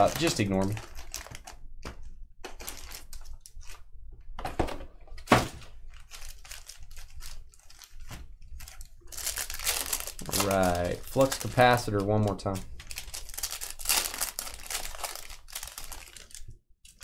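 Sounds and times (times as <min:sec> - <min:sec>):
wrapper crinkling and tearing: 0:00.0 - 0:01.6, 0:02.4 - 0:03.9, 0:05.6 - 0:17.0
cards rustling: 0:00.0 - 0:03.8, 0:05.9 - 0:17.0.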